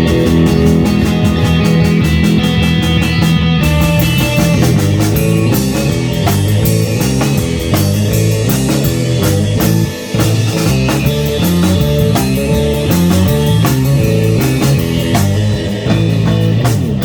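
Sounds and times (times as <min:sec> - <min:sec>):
drum hits: 0:00.0 - 0:17.0
electric guitar: 0:00.0 - 0:17.0.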